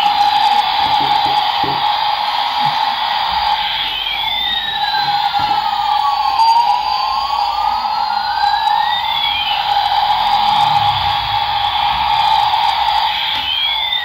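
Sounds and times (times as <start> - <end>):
sliding siren-like tone: 0.0 - 14.0
toy helicopter electronic whine: 0.0 - 14.0.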